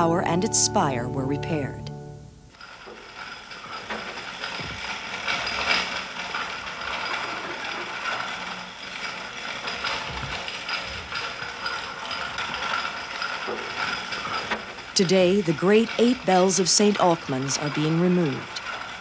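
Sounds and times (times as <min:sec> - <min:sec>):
hoisting gear clicking and rattling: 0:02.6 - 0:19.0.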